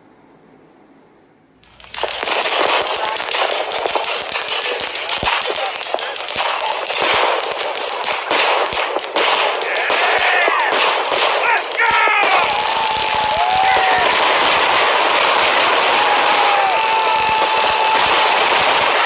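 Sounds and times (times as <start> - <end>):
firecrackers crackling: 1.6 - 19.0.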